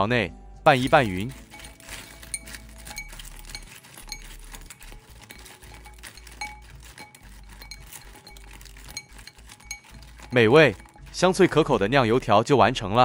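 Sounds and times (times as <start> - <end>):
utensils clinking against glass bowl: 0.7 - 12.4.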